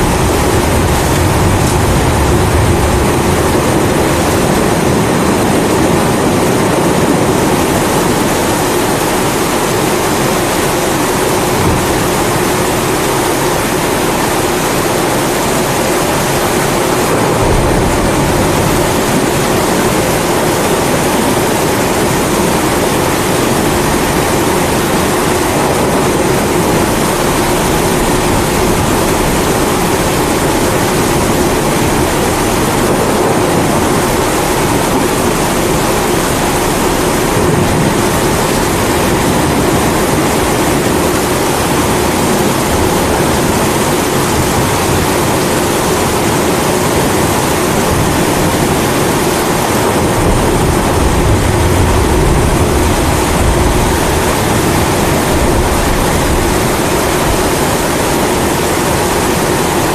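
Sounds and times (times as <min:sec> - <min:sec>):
low rumble of thunder: 0:00.0 - 0:08.0, 0:11.2 - 0:45.3, 0:46.9 - 0:58.6
steady rain: 0:00.0 - 0:59.9.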